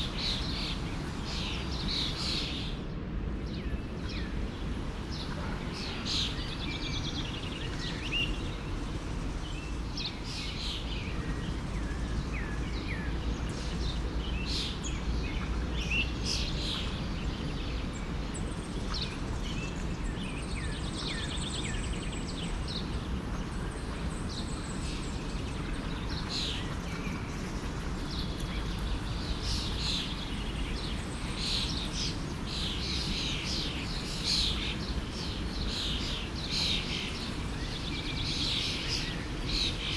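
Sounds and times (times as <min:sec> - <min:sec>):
small birds chirping and trilling: 0:00.0 - 0:02.8, 0:03.4 - 0:39.9
forest stream rushing: 0:00.0 - 0:39.9.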